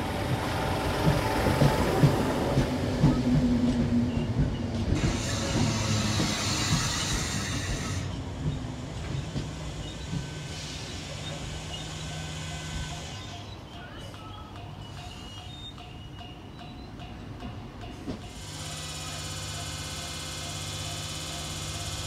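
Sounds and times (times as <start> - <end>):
train slowing to a stop: 0.0 - 22.0.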